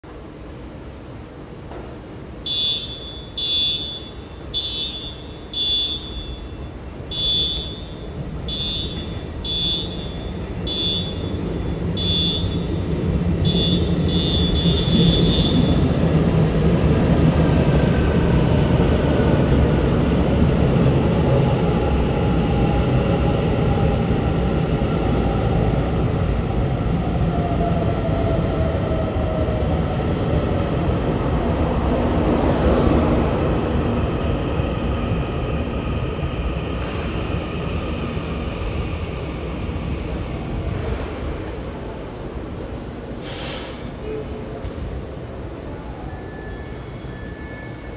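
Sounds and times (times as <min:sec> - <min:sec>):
train wheels rumbling on rails: 0:06.1 - 0:47.9.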